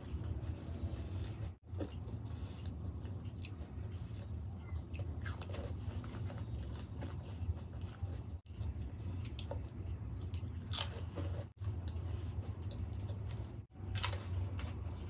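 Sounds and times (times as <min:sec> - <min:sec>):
steady low hum: 0:00.0 - 0:15.0
wet chewing: 0:00.0 - 0:15.0.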